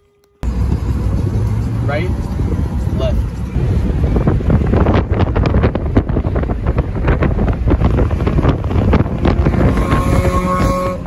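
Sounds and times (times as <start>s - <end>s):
car road and engine noise: 0.0s - 11.0s
wind buffeting microphone: 0.4s - 11.0s.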